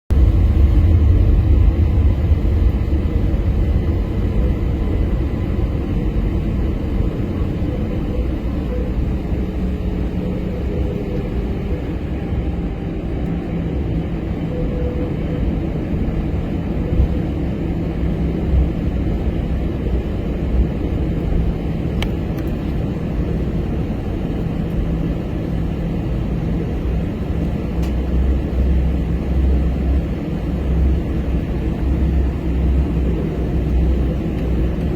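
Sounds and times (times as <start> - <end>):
jet cabin rumble: 0.1 - 34.9.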